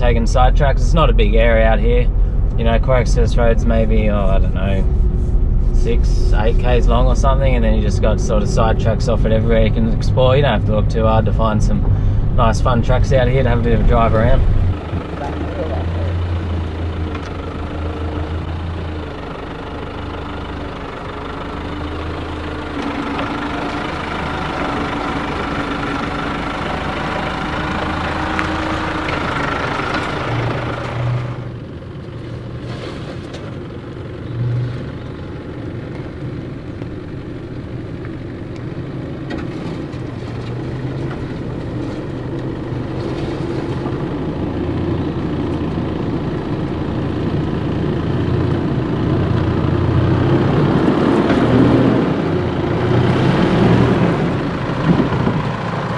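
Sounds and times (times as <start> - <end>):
vehicle engine whining: 0.0 - 55.9.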